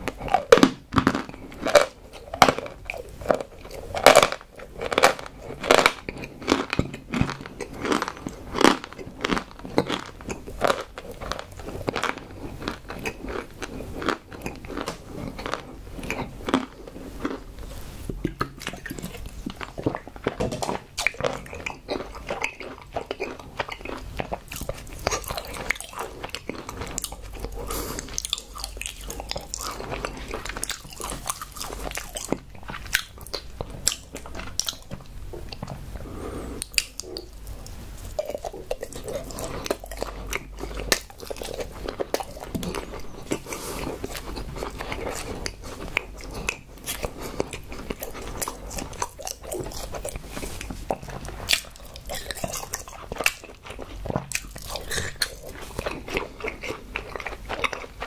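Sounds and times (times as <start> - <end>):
close chewing with crunchy clicks: 0.0 - 58.0.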